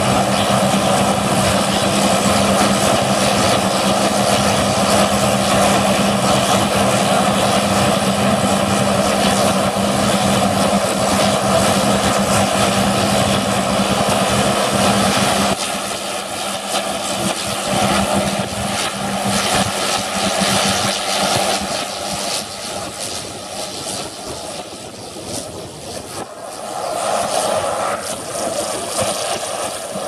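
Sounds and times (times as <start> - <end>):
propeller noise: 0.0 - 30.0
turboprop engines running: 0.0 - 30.0.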